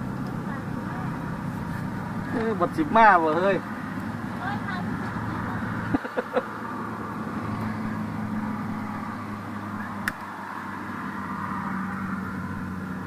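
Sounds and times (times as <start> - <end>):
distant engine humming: 0.0 - 13.0.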